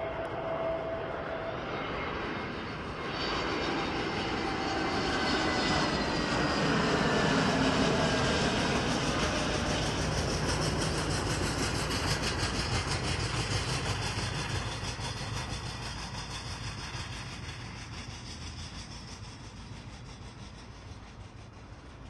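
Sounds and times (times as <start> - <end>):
jet airliner engine rumble: 0.0 - 22.0.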